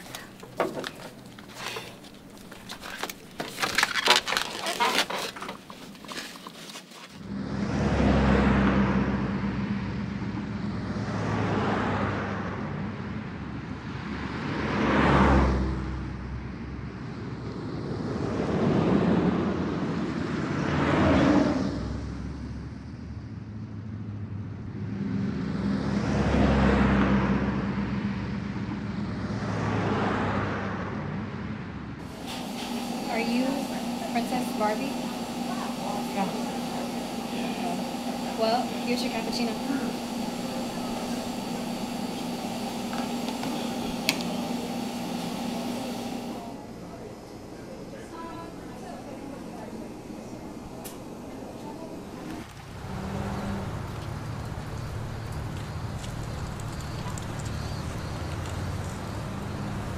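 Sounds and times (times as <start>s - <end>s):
car engine and road hum: 0.0s - 59.9s
traffic noise: 0.0s - 59.9s.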